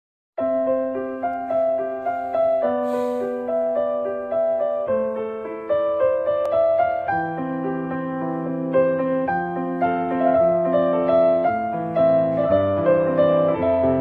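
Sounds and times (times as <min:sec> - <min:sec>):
gentle keyboard music: 0:00.4 - 0:14.0.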